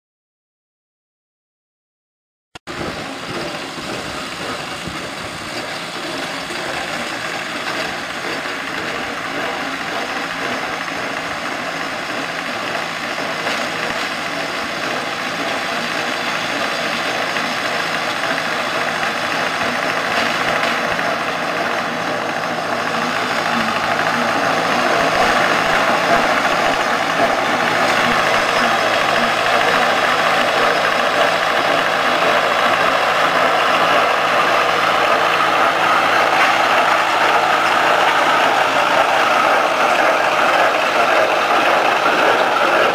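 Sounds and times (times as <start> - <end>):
tractor engine running: 2.6 - 42.9
hay baler working: 2.7 - 42.9.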